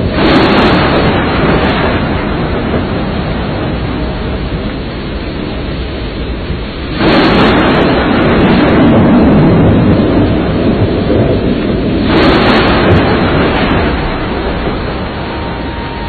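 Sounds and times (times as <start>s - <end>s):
storm rushing noise: 0.0s - 16.0s.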